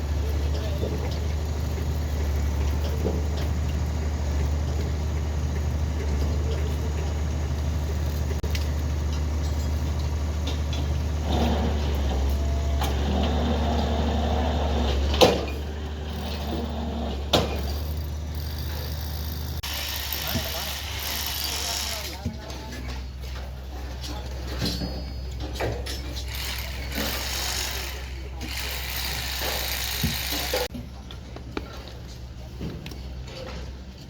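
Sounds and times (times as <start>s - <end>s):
heavy machine engine droning: 0.0s - 34.0s.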